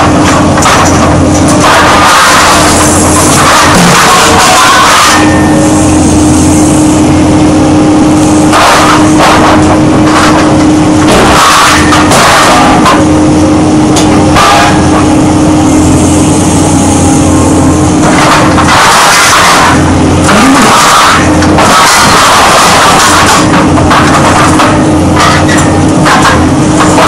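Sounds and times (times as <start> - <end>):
shear cutting steel bars: 0.0 - 7.0, 8.4 - 13.3, 13.9 - 15.2, 18.0 - 27.0
excavator engine humming: 0.0 - 27.0.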